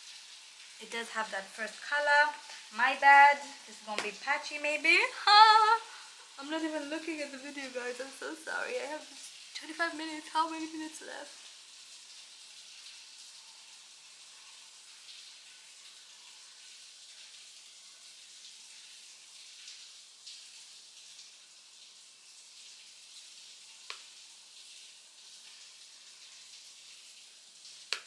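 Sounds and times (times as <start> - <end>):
soft hiss: 0.0 - 28.0.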